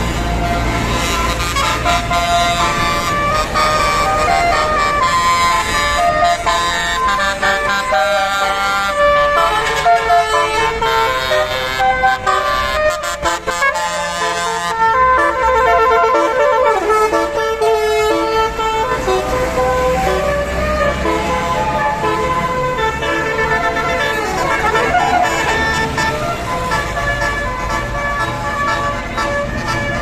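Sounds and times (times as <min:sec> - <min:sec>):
multi-tone air horn playing a tune: 0:00.5 - 0:30.0.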